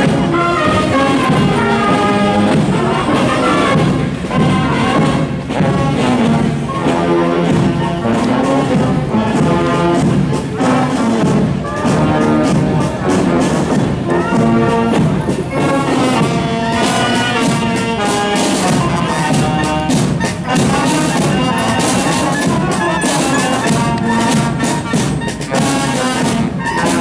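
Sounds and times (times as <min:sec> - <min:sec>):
military band playing: 0:00.0 - 0:27.0
steady drumbeat: 0:00.0 - 0:27.0.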